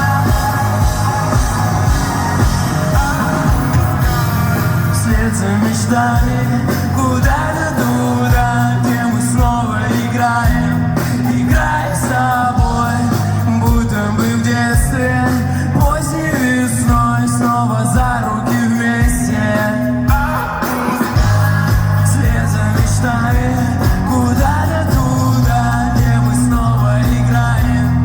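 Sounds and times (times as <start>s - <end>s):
person singing: 0.0s - 28.0s
rock band playing live: 0.0s - 28.0s.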